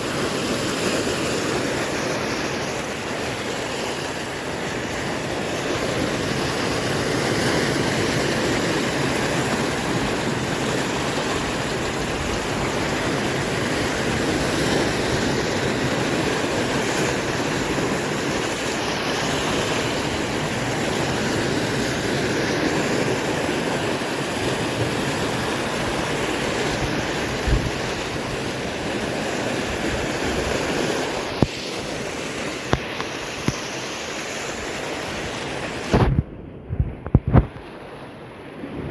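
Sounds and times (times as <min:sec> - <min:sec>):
surf breaking and washing in: 0:00.0 - 0:38.9
wind buffeting microphone: 0:02.7 - 0:33.6, 0:35.3 - 0:38.9.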